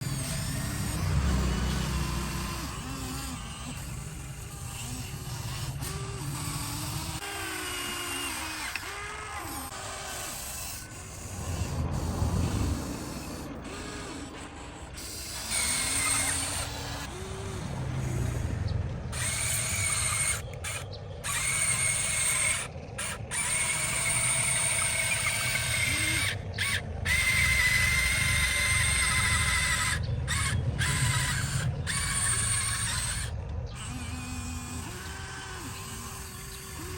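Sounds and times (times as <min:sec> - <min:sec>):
small electric motors whining: 0:00.0 - 0:36.9.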